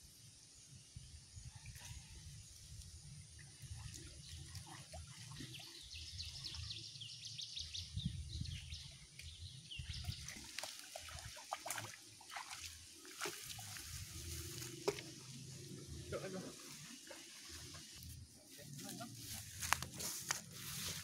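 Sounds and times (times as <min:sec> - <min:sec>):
birds chirping: 0:01.5 - 0:19.4.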